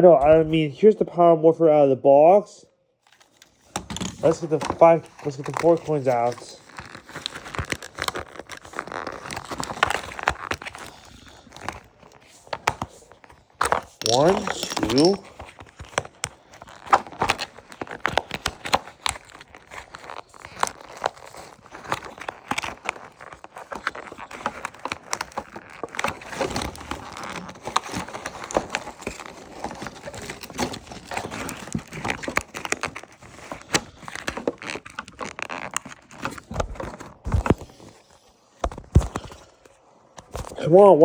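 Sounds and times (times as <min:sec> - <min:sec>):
plastic packaging crinkling: 0:03.0 - 0:40.6.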